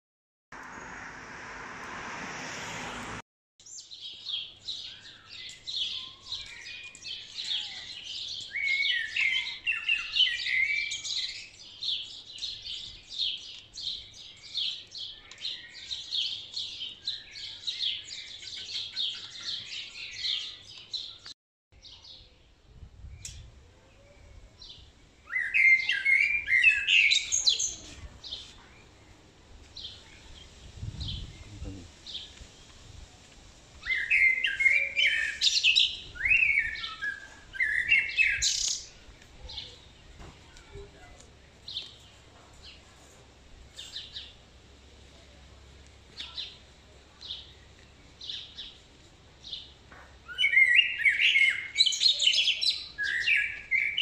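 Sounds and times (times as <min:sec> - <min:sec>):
songbirds chirping and singing: 0:03.6 - 0:22.5, 0:23.2 - 0:33.0, 0:33.8 - 0:43.1, 0:45.8 - 0:54.0.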